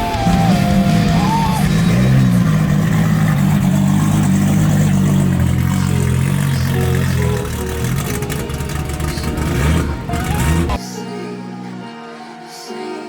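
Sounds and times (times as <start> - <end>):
car engine at steady revs: 0.0 - 10.8.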